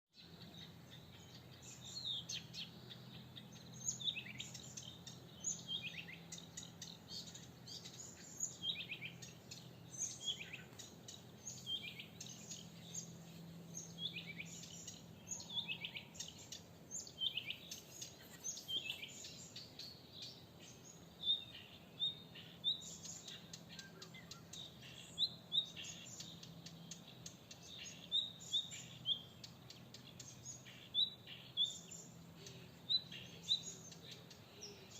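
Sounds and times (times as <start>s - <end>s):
songbirds chirping and singing: 0.1s - 34.9s.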